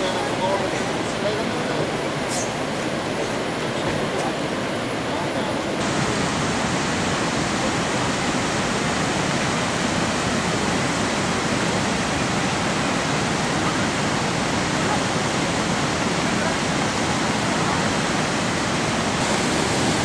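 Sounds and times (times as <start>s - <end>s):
river rushing over rapids: 0.0s - 20.0s.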